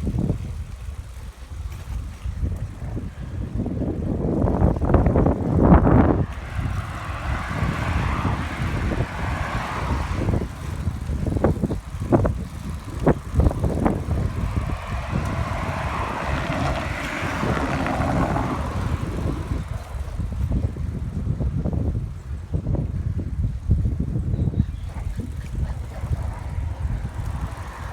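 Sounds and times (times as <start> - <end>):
bicycle tyre and road noise: 0.0 - 27.9
wind buffeting microphone: 0.0 - 27.9.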